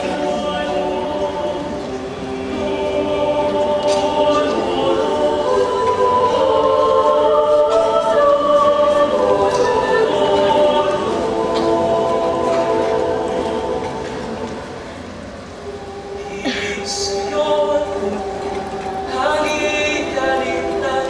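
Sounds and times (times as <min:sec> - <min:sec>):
male choir singing: 0:00.0 - 0:21.0.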